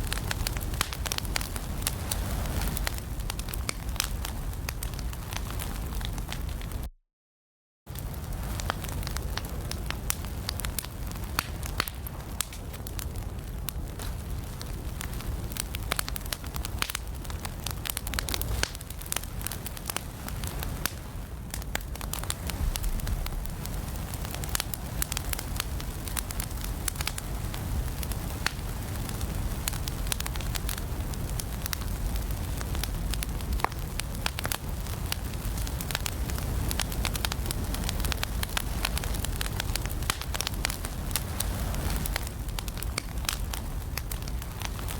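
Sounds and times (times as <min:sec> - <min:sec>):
fireplace fire crackling: 0:00.0 - 0:06.9, 0:07.9 - 0:44.9.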